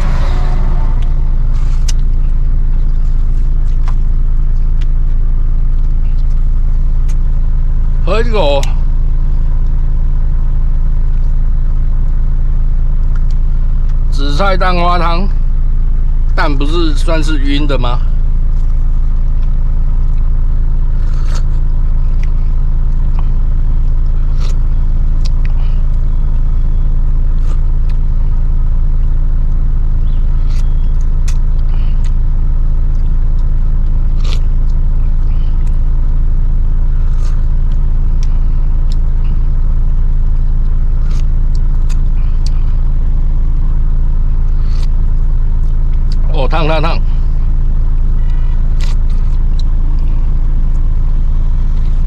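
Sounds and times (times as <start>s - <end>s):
vehicle engine idling: 0.0s - 52.0s.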